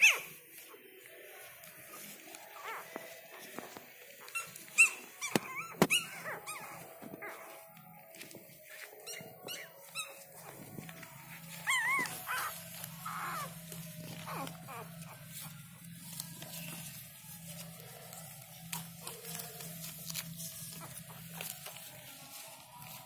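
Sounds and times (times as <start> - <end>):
puppies squeaking and whimpering: 0.0 - 0.8, 1.4 - 22.5.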